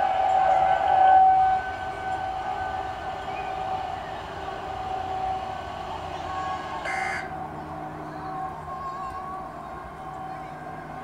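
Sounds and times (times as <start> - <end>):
tornado warning siren: 0.0 - 11.0.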